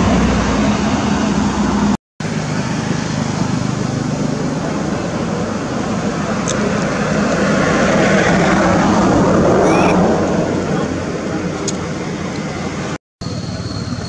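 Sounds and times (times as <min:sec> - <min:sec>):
passing vehicle engine: 0:00.0 - 0:14.0.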